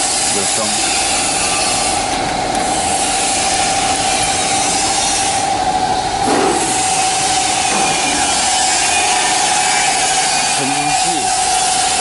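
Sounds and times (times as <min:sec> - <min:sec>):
mid-pitched machinery whine: 0:00.0 - 0:12.0.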